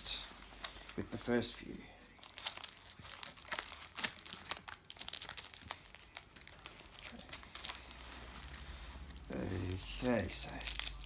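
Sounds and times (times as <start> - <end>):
card pack wrappers crinkling: 0.0 - 11.0.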